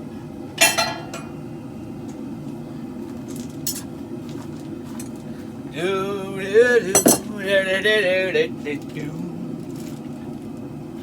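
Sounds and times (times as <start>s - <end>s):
gas forge burners roaring: 0.0s - 11.0s.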